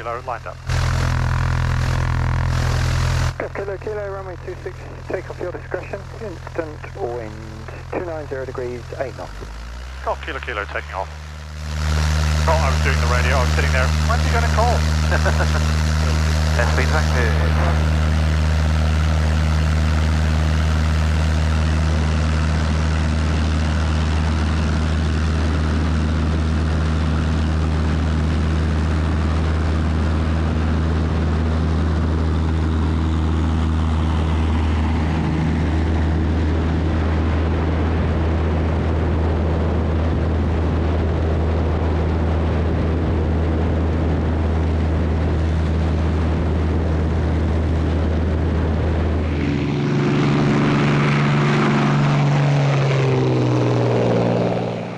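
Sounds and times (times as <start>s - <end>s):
airplane engine and propeller drone: 0.0s - 54.9s.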